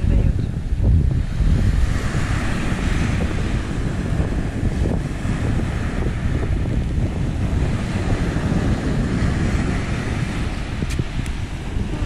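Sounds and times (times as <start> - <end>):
sea surf breaking on shore: 0.0 - 12.0
wind buffeting microphone: 0.0 - 12.0.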